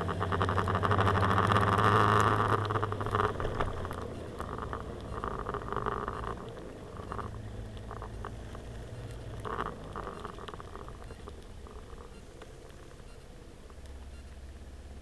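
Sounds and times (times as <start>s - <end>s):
scooter engine idling: 0.0s - 13.6s.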